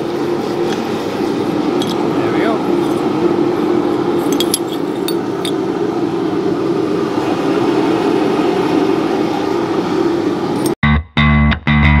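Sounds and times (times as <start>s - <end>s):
mechanical drone of shop equipment: 0.0s - 10.8s.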